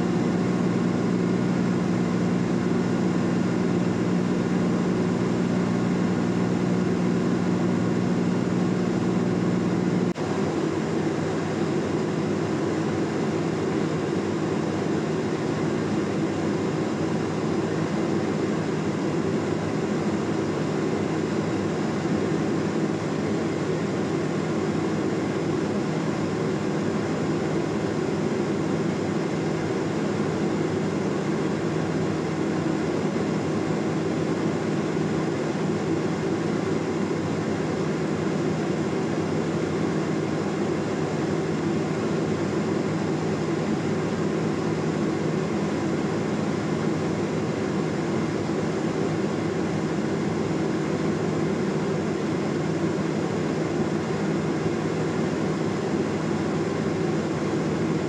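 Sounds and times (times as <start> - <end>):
airplane engine droning in cabin: 0.0 - 58.0.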